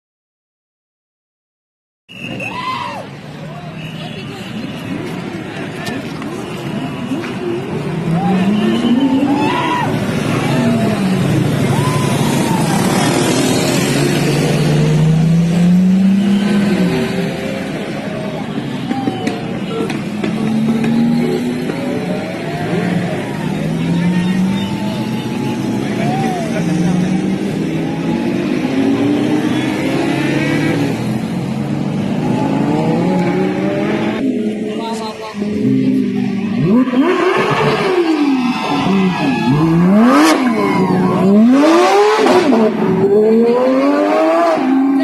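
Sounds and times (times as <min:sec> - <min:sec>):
sports car engines revving: 0:05.9 - 0:45.0.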